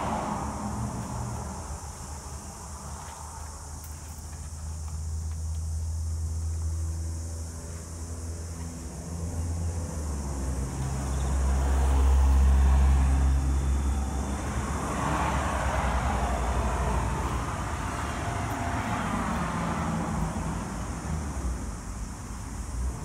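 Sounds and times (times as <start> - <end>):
vehicle passing hiss: 0.0 - 23.0.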